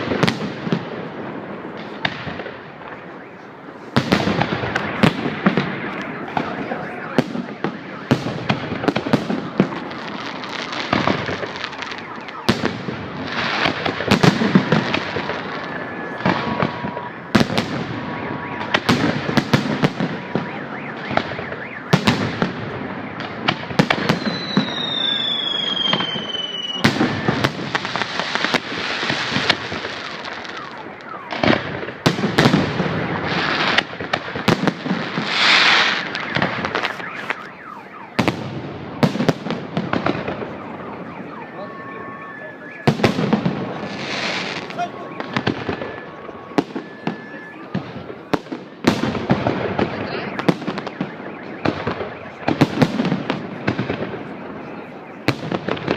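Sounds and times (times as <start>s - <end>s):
firework bangs: 0.0s - 55.9s
firework crackling: 0.0s - 55.9s
falling firework whistle: 2.9s - 49.2s.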